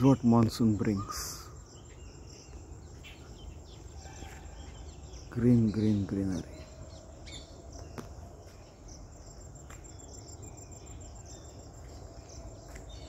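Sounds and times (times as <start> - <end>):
high pulsing insect trill: 0.0 - 13.0
insects chirring: 0.0 - 13.0.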